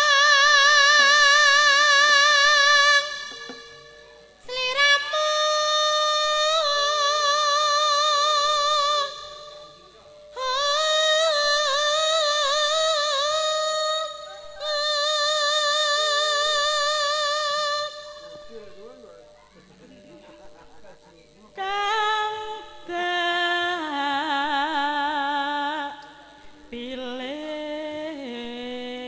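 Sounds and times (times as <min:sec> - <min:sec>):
woman singing into microphone: 0:00.0 - 0:09.7, 0:10.3 - 0:18.5, 0:21.6 - 0:29.0.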